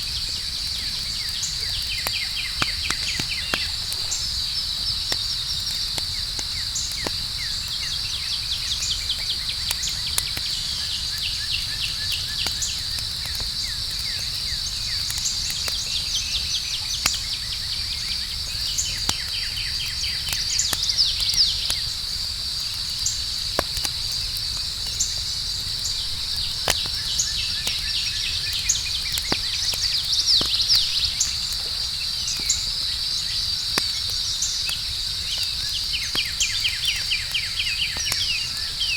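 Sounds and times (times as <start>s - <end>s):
campfire crackling and popping: 0.0s - 38.9s
crickets chirring: 0.0s - 38.9s.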